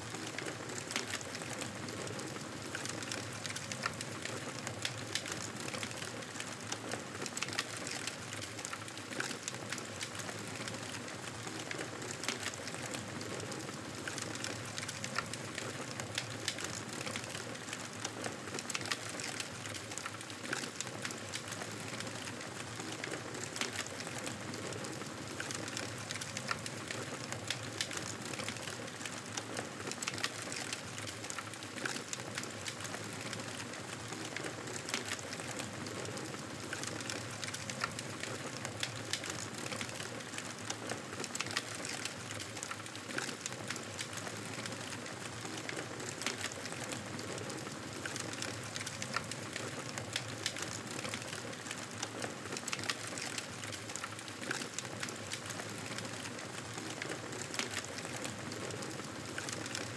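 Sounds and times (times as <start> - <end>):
wood crackling and popping: 0.0 - 59.9.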